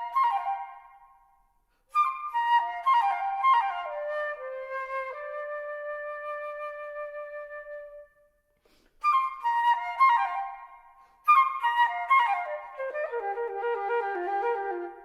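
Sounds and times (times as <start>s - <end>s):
solo flute: 0.0s - 15.0s.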